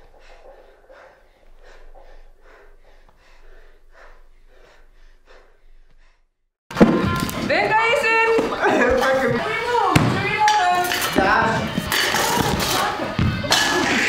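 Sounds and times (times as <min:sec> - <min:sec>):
people breathing heavily: 0:00.0 - 0:06.5, 0:08.4 - 0:14.0.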